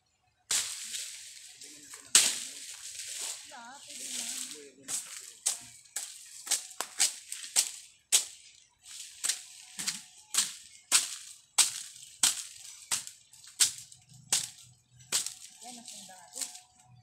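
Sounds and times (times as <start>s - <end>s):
machete chopping dry branches: 0.5s - 16.6s.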